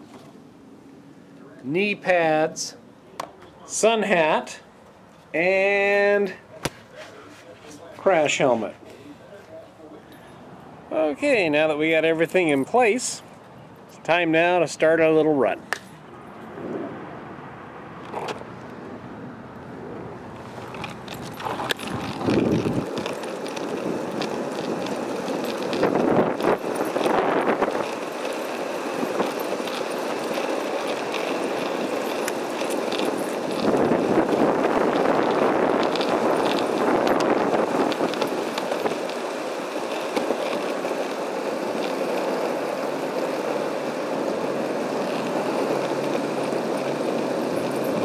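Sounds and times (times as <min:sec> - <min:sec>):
skateboard wheels rolling on asphalt: 0:00.0 - 0:48.0.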